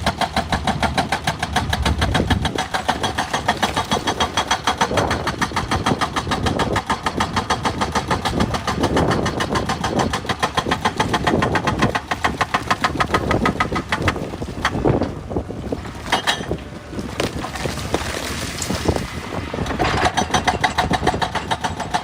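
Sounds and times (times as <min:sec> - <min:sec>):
diesel engine clattering: 0:00.0 - 0:22.0.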